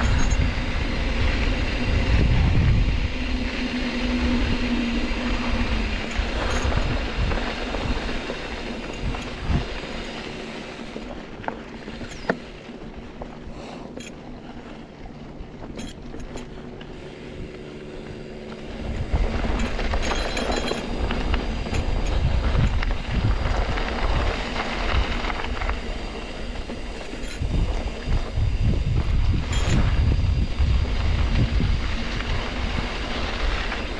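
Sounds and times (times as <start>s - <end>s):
bike rattling over dirt trail: 0.0s - 33.9s.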